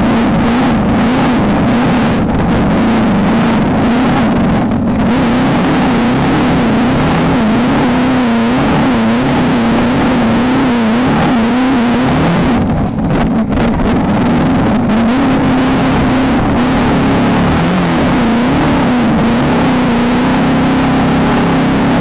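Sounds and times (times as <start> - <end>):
race car engine running hard: 0.0 - 22.0
steady rushing noise: 0.0 - 22.0.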